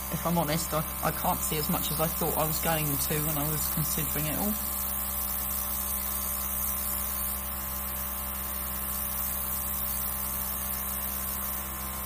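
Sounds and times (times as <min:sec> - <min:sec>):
airbrush air hiss: 0:00.0 - 0:12.0
compressor electric hum: 0:00.0 - 0:12.0.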